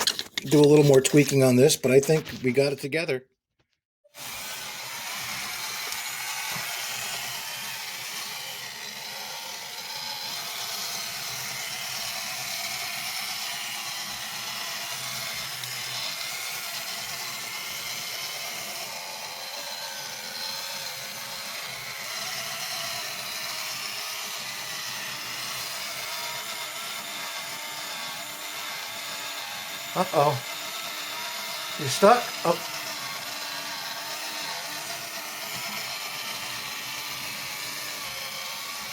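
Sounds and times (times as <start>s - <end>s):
toy motor and gears whirring: 0.0s - 2.7s, 4.1s - 38.9s.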